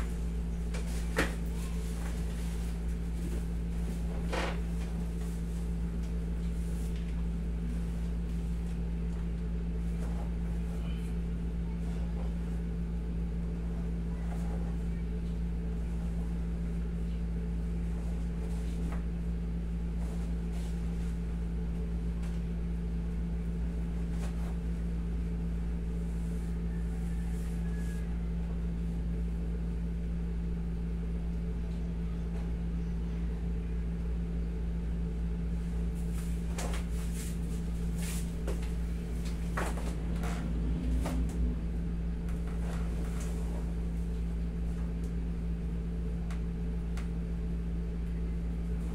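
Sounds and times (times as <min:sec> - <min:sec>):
air conditioner humming: 0:00.0 - 0:48.9.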